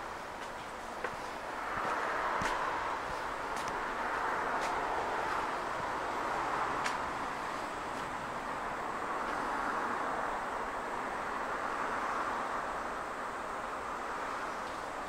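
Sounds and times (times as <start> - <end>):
railway platform ambient hiss: 0.0 - 15.0.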